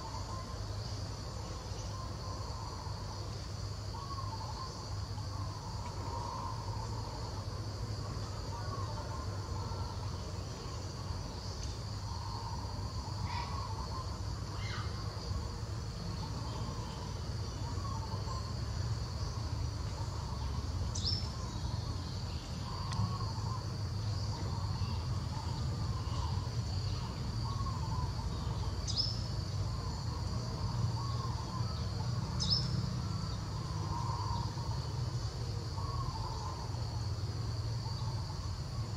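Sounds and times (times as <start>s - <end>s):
insects buzzing: 0.0s - 38.9s
steady low hum: 0.0s - 38.9s.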